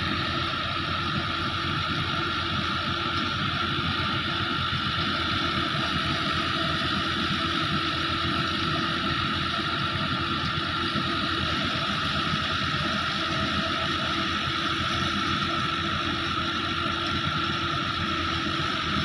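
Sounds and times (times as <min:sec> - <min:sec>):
threshing machine whirring drone: 0:00.0 - 0:19.0
tractor diesel engine running: 0:00.0 - 0:19.0.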